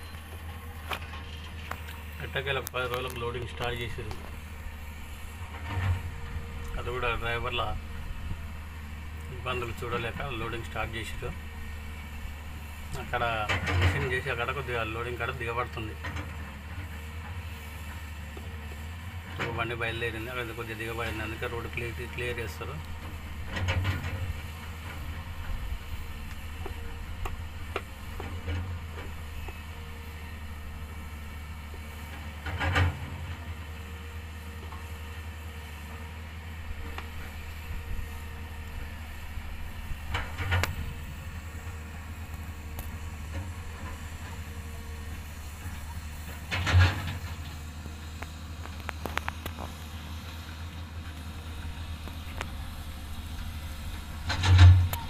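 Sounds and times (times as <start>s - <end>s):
diesel truck engine humming: 0.0s - 55.0s.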